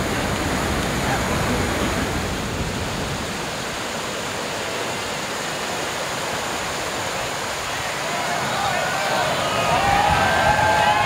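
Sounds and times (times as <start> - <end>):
whitewater rapid rushing over boulders: 0.0 - 11.0.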